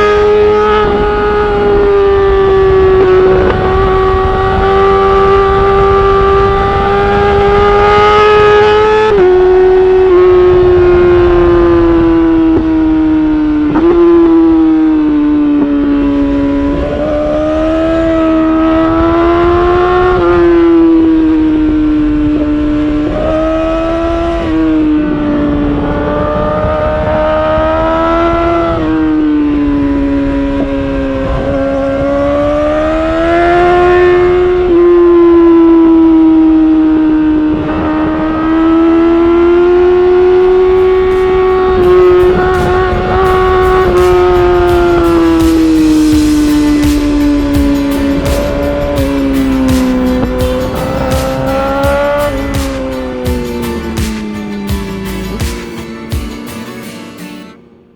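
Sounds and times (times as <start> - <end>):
motorcycle engine at high revs: 0.0 - 56.4
wind and road rumble: 0.0 - 56.9.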